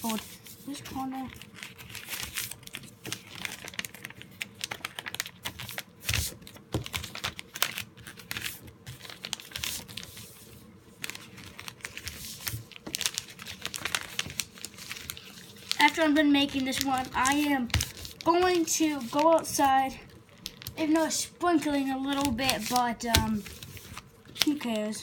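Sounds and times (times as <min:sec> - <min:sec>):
paper rustling and crinkling: 0:00.0 - 0:25.0.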